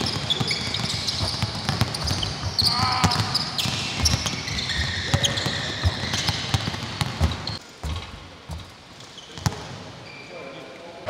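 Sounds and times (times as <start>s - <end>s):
basketballs bouncing on gym floor: 0.0s - 10.0s.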